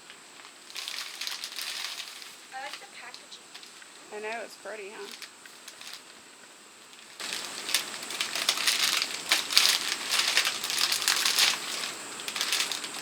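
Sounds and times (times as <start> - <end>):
gift packaging crinkling: 0.0 - 13.0.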